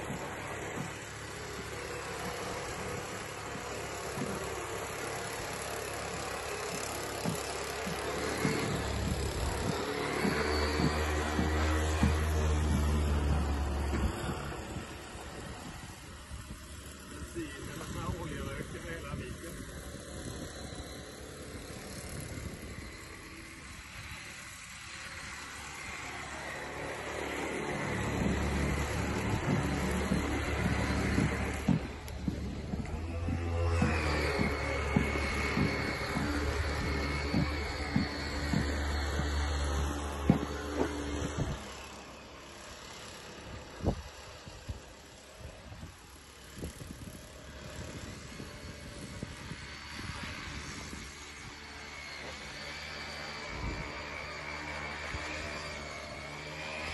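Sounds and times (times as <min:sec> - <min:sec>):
model boat petrol engine running: 0:00.0 - 0:56.9.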